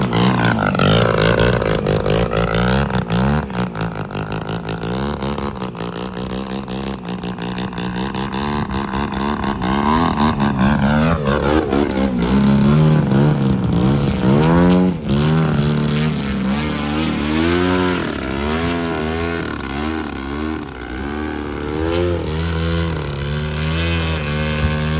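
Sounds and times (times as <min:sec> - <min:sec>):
model jet engine whine: 0:00.0 - 0:24.9.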